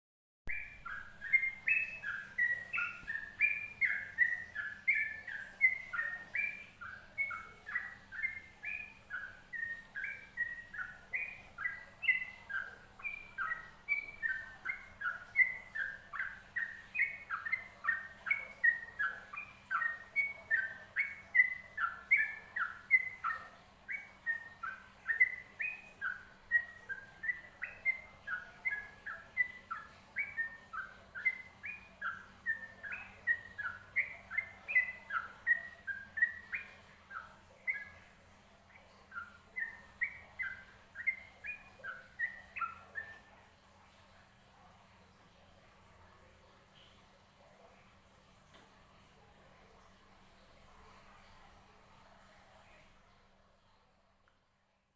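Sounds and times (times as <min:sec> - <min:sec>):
bird singing bubbly chirps: 0:00.5 - 0:47.0
faint steady hum: 0:00.5 - 0:54.9.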